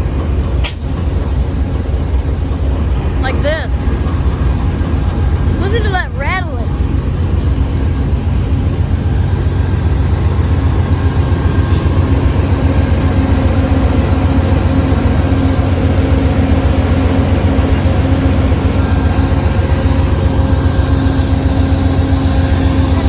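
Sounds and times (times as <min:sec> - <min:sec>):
diesel locomotive engines rumbling: 0:00.0 - 0:23.0.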